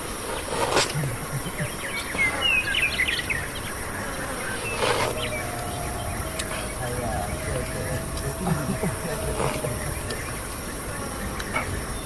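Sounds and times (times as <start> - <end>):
high insect drone: 0.0 - 12.0
bird chirps: 0.3 - 12.0.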